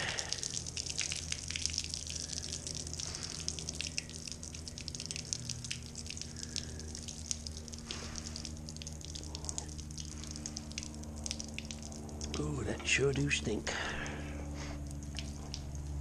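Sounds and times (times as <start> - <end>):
liquid dripping onto concrete: 0.0 - 12.5, 14.0 - 16.0
steady low hum: 0.0 - 16.0.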